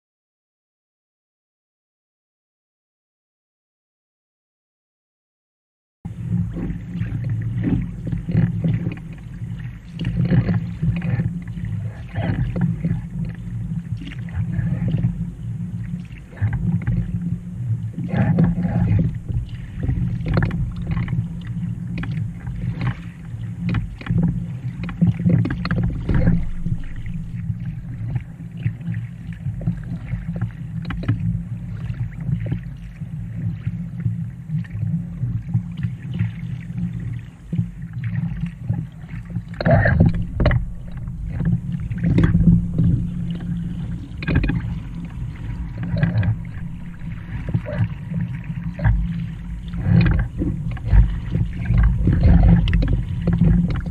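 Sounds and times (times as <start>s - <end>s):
paddle splashing water: 6.1s - 53.9s
steady low rumble: 6.1s - 53.9s.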